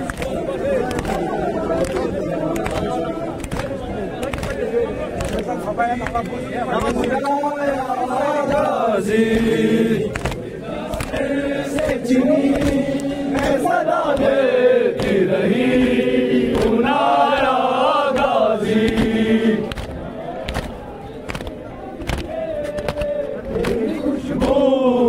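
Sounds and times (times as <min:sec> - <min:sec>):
hands beating on chests: 0:00.0 - 0:07.2, 0:09.3 - 0:15.3, 0:16.5 - 0:24.6
men chanting a lament: 0:00.0 - 0:25.0.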